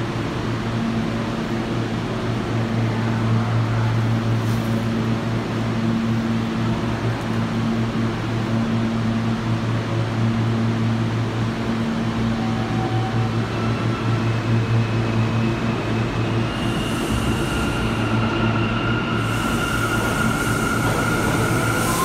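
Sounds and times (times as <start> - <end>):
distant subway train: 0.0 - 22.0.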